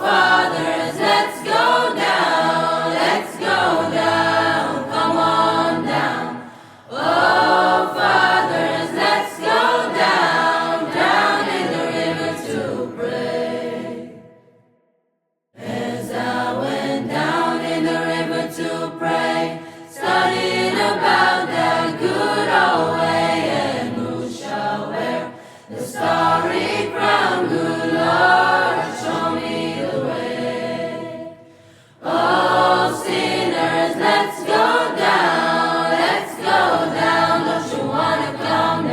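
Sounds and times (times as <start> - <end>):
choir singing: 0.0 - 14.7, 15.6 - 38.9.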